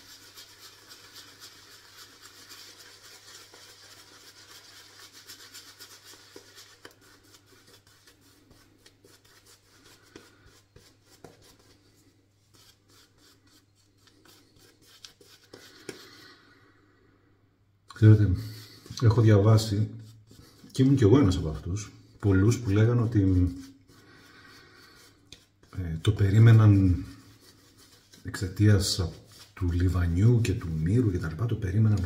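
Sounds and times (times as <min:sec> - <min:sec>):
shaving brush scrubbing: 0:00.0 - 0:16.4, 0:18.0 - 0:32.0.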